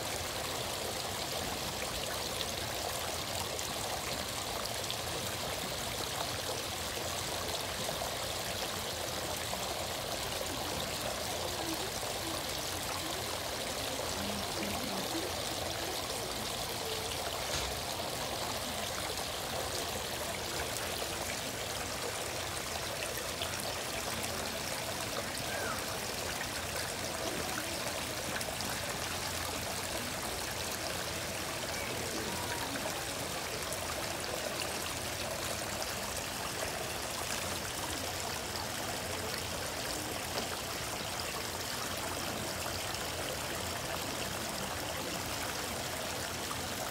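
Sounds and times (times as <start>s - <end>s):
water trickling into pond: 0.0s - 46.9s.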